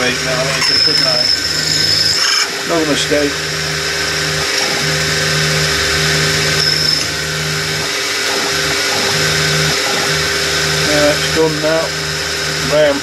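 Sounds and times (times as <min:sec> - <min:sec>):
electric motor low hum: 0:00.0 - 0:13.0
motor high whine: 0:00.0 - 0:13.0.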